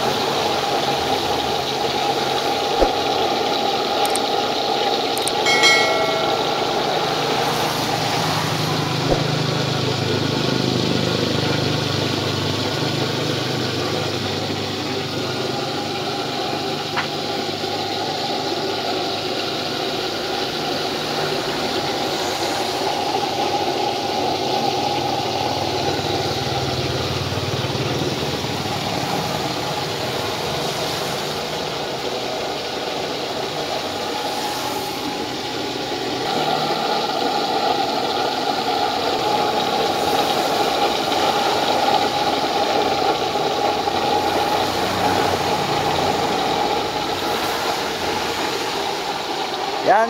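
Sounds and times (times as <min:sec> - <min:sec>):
oil stove flame rushing: 0:07.4 - 0:49.9.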